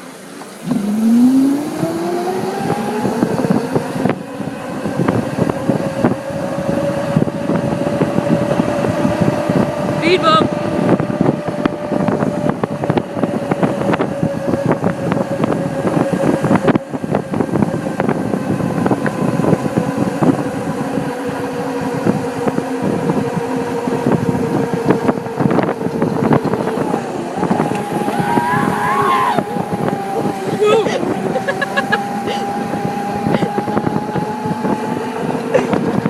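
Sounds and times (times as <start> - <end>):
mini bike engine running: 0.6 - 36.0.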